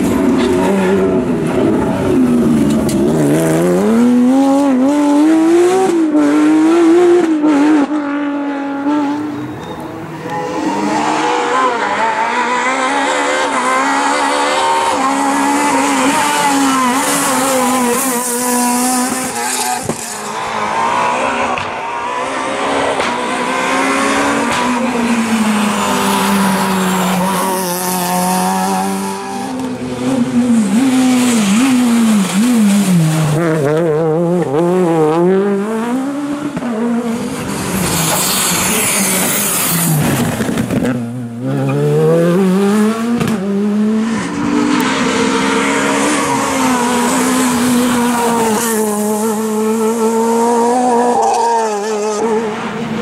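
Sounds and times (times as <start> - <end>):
rally car engines revving hard: 0.0 - 53.0.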